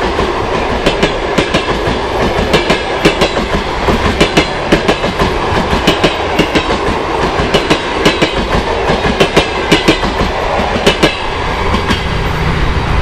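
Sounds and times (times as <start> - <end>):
train wheels clicking over rail joints: 0.0 - 12.3
train rumble: 0.0 - 13.0.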